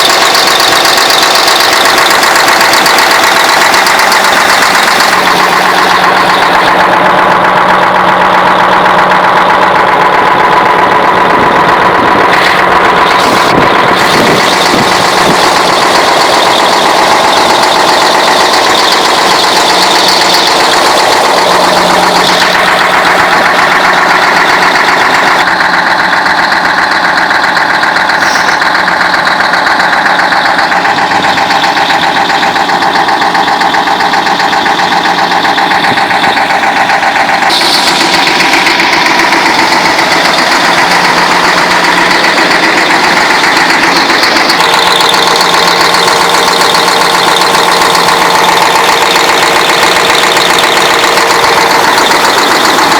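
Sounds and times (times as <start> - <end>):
diesel truck engine running: 0.0 - 52.9
fast even engine knocking: 0.0 - 52.9.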